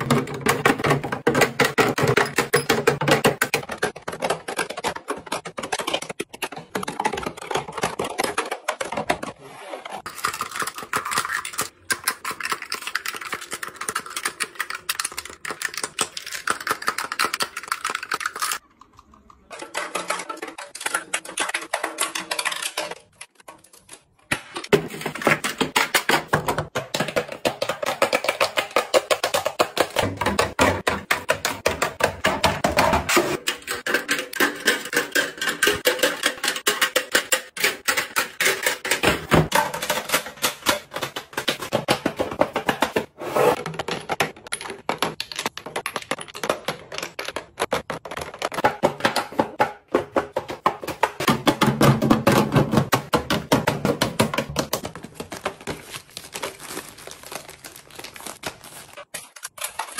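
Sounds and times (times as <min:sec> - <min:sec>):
plastic cases clicking and clacking: 0:00.0 - 0:18.6, 0:19.4 - 0:59.9.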